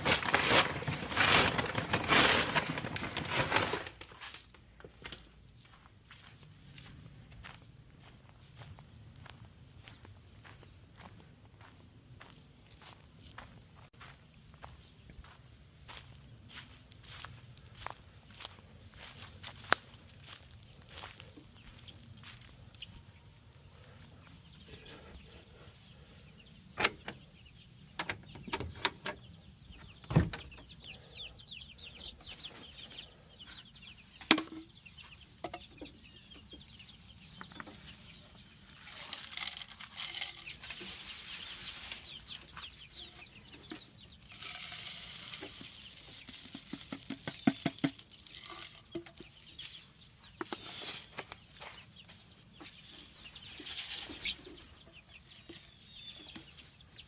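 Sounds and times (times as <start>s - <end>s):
chickens clucking: 4.8s - 57.0s.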